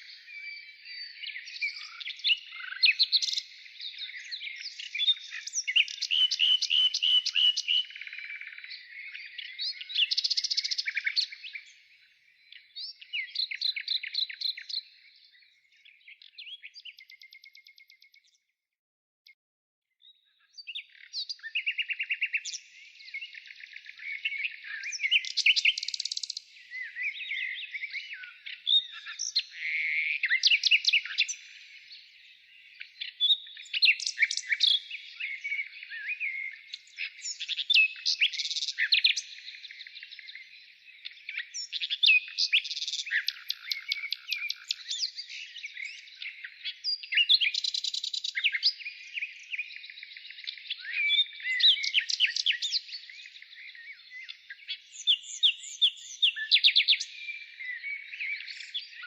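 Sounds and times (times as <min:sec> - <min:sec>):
songbirds singing: 0:00.0 - 0:18.6, 0:20.0 - 0:59.0.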